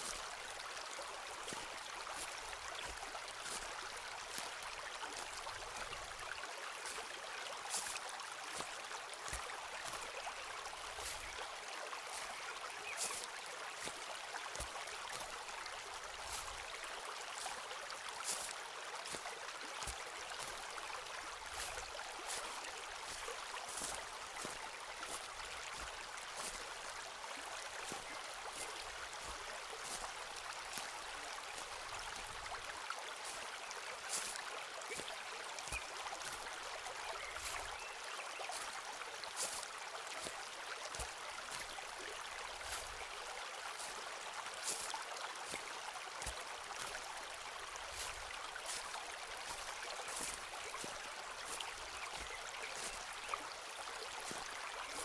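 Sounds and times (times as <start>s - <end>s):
stream rushing: 0.0s - 55.0s
footsteps crunching on path: 1.4s - 7.1s, 7.7s - 17.6s, 18.2s - 55.0s.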